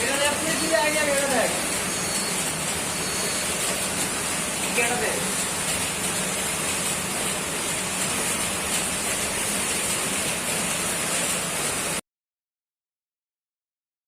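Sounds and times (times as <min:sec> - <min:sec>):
air conditioner blower fan: 0:00.0 - 0:12.0.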